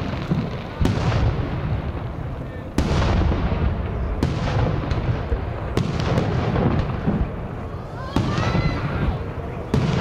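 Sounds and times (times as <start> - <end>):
fireworks bursting bangs: 0.0 - 10.0.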